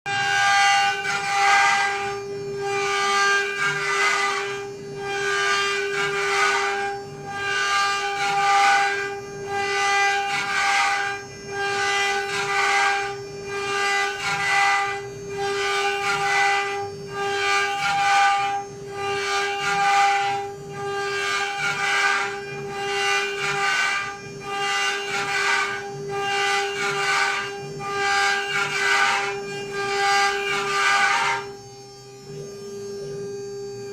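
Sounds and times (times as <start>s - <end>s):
router spindle high whine: 0.1s - 33.9s
tool cutting material: 0.1s - 33.9s.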